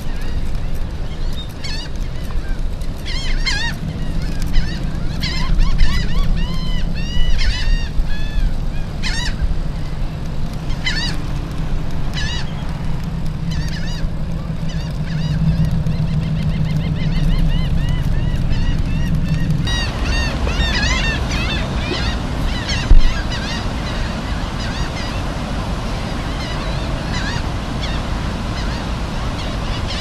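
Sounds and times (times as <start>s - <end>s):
gulls calling: 0.0s - 30.0s
steady low rumble: 0.0s - 30.0s.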